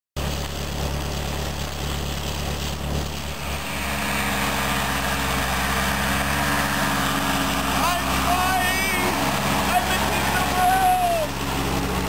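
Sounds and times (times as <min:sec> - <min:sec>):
constant rushing noise: 0:00.2 - 0:12.0
tractor engine running: 0:00.2 - 0:12.0.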